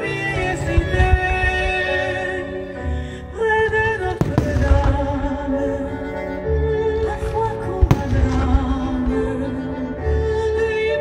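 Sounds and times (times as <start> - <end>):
music with long held notes: 0.0 - 11.0.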